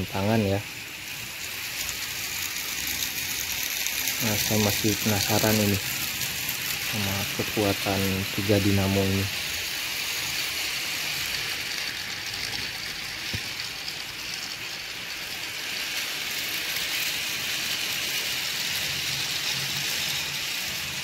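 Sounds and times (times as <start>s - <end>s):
toy train wheels rattling: 0.0s - 21.0s.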